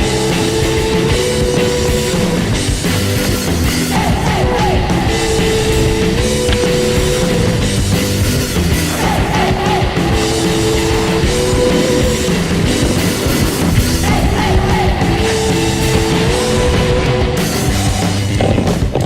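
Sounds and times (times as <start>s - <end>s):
rock song: 0.0s - 19.0s.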